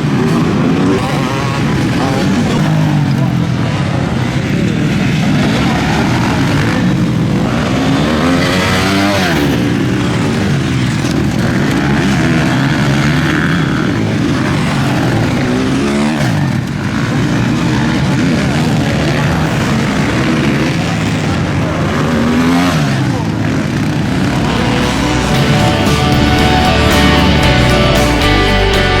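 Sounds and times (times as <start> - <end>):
motocross bikes revving: 0.0 - 29.0.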